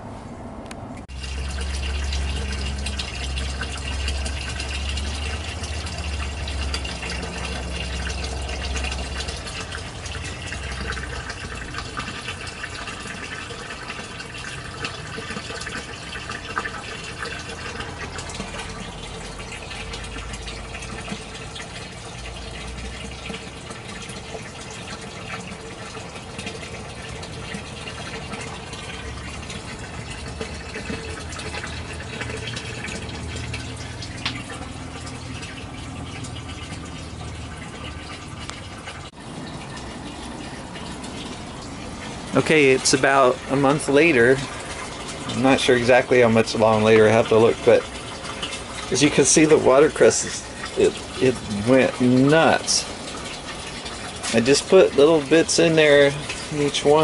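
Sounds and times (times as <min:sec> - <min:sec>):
water pouring into tray: 0:01.1 - 0:57.0.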